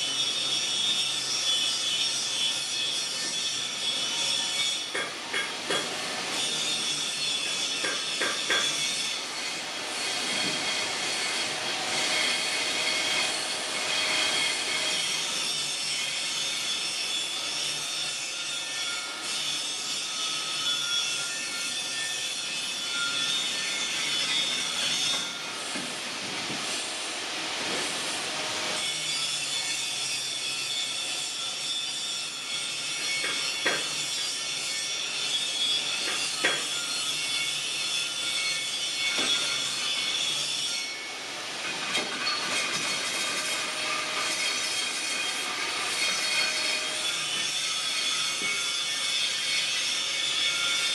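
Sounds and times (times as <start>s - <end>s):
metal rasping with ringing: 0.0s - 27.0s, 28.7s - 50.9s.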